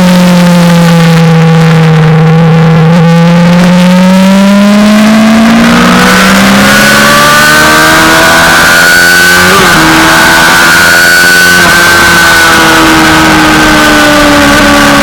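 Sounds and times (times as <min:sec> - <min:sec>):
motorcycle engine at speed: 0:00.0 - 0:15.0
second engine rising tone: 0:00.0 - 0:15.0.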